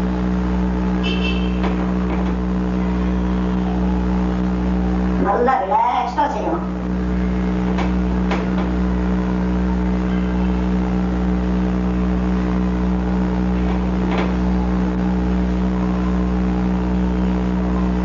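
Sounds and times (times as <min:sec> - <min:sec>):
buzzing electrical hum: 0:00.0 - 0:18.0.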